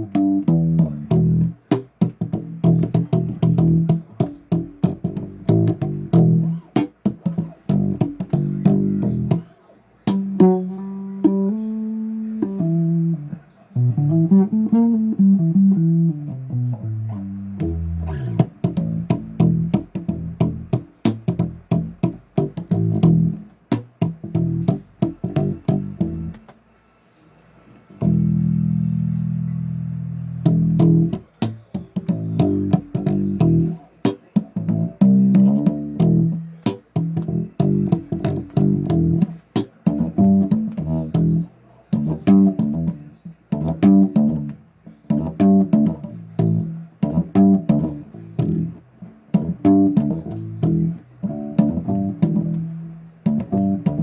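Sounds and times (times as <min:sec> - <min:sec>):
bass guitar plucked notes: 0:00.0 - 0:26.5, 0:27.9 - 0:54.0.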